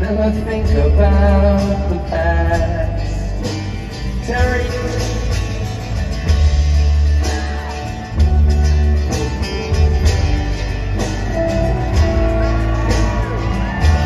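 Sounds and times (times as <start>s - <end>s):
electric bass notes: 0.0s - 14.0s
strummed acoustic guitar: 0.0s - 14.0s.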